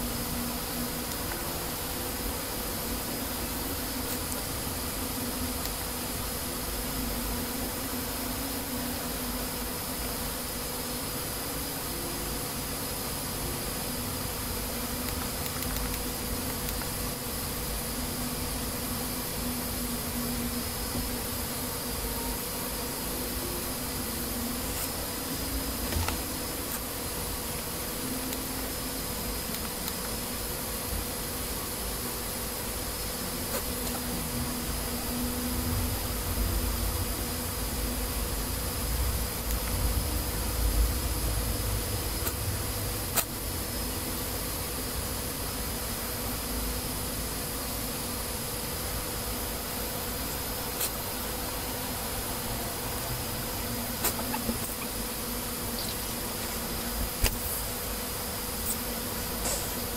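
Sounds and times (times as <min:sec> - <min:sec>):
background hiss: 0:00.0 - 0:59.9
low buzzing hum: 0:00.0 - 0:59.9.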